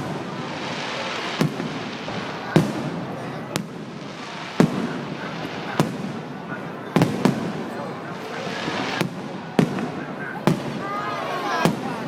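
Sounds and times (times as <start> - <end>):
fireworks bangs: 0.0 - 12.0
steady background hiss: 0.0 - 12.0.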